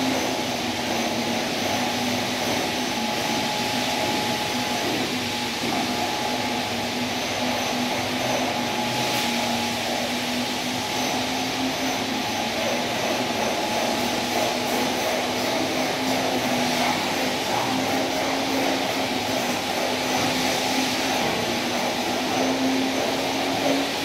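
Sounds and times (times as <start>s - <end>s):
machine motor drone: 0.0s - 24.0s.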